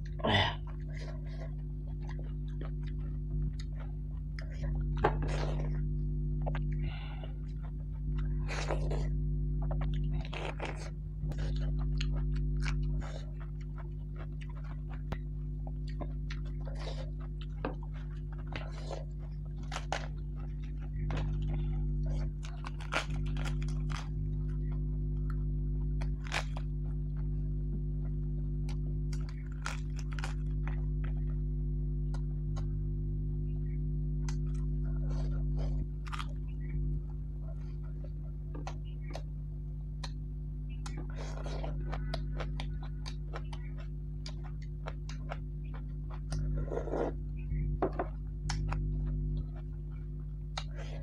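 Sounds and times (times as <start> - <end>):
crunching and chewing: 0.0 - 51.0
steady low hum: 0.0 - 51.0.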